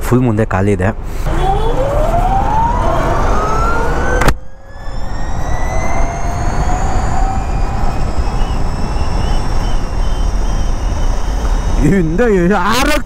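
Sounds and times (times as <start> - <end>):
low wind rumble: 0.0 - 13.0
electric scooter motor whine: 1.3 - 13.0.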